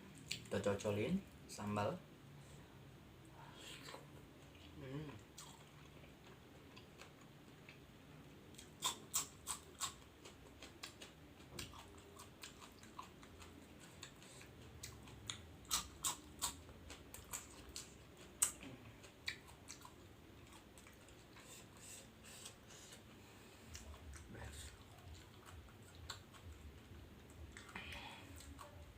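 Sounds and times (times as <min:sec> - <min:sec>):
wet chewing: 0:03.7 - 0:07.9, 0:08.5 - 0:28.9.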